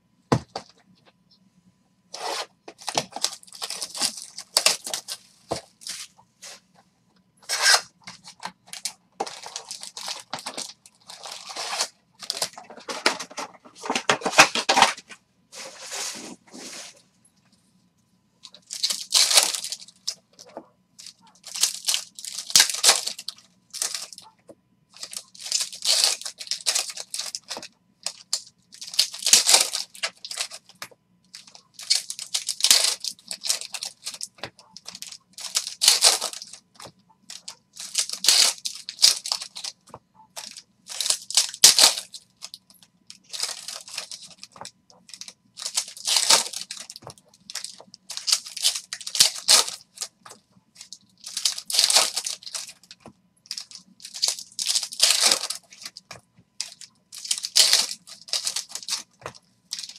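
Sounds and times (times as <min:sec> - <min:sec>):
foil wrappers tearing and crinkling: 0:02.2 - 0:06.1, 0:07.4 - 0:15.0, 0:18.5 - 0:20.2, 0:21.0 - 0:24.3, 0:25.0 - 0:39.8, 0:40.4 - 0:59.9.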